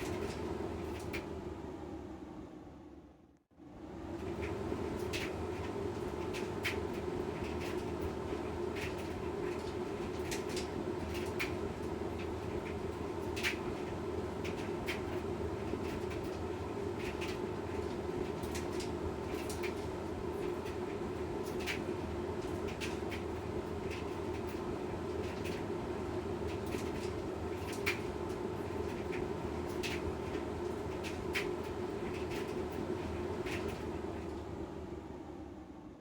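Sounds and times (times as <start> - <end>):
washing machine running: 0.0 - 36.0.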